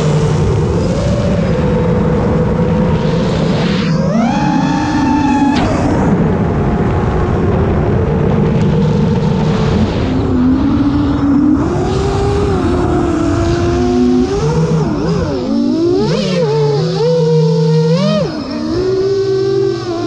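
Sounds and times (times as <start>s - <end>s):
wind rushing: 0.0s - 16.1s
drone motors whining: 0.0s - 20.0s.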